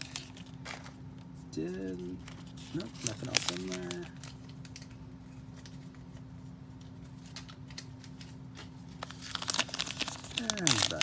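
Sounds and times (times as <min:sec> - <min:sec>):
plastic wrapper crinkling: 0:00.0 - 0:01.0, 0:02.2 - 0:06.2, 0:06.9 - 0:11.0
steady low hum: 0:00.0 - 0:11.0.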